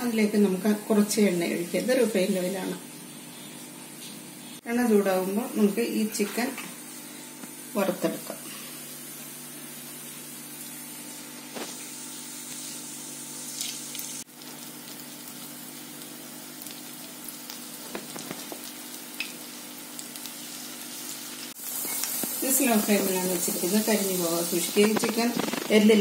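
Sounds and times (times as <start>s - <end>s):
chicken sizzling in hot oil: 0.1s - 26.0s.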